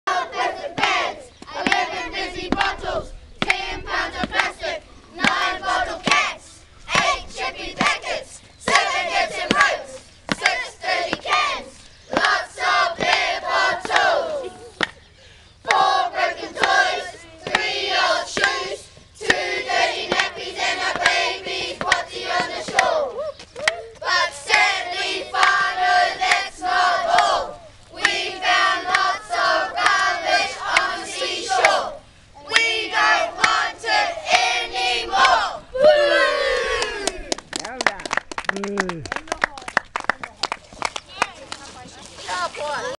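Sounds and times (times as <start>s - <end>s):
children chanting in unison: 0.1s - 14.7s, 15.6s - 23.2s, 24.0s - 37.0s.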